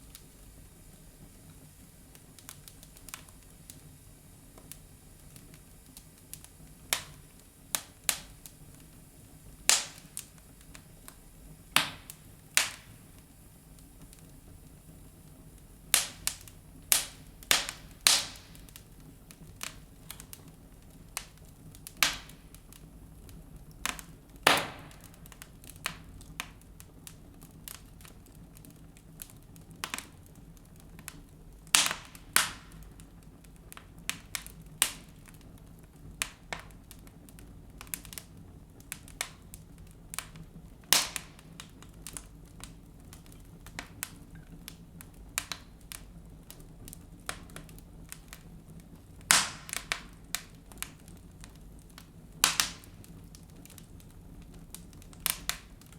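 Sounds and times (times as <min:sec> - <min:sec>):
faint hiss of flames: 0:00.0 - 0:55.9
fire crackling and popping: 0:00.0 - 0:55.9.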